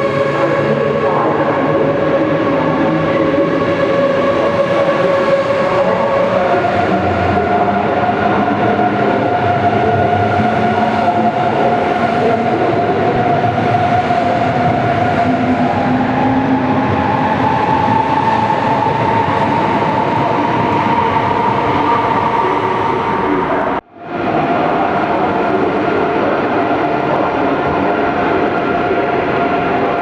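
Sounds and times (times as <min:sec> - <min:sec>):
train whine: 0:00.0 - 0:30.0.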